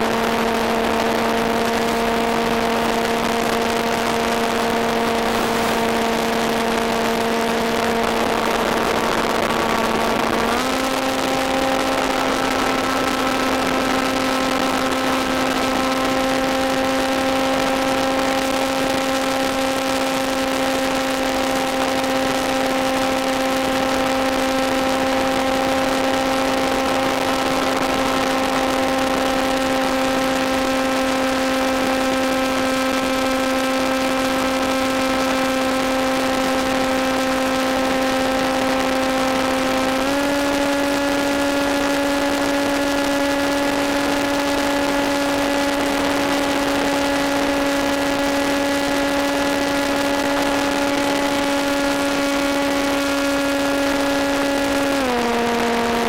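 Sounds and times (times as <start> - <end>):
electric motor and propeller whine: 0.0 - 56.0.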